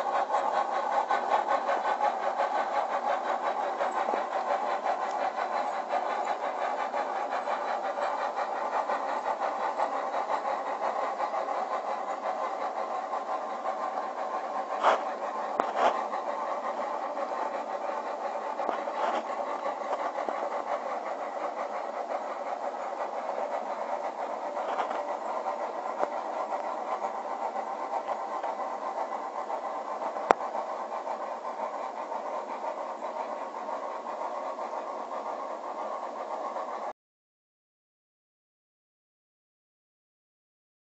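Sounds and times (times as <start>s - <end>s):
model train running: 0.0s - 37.0s.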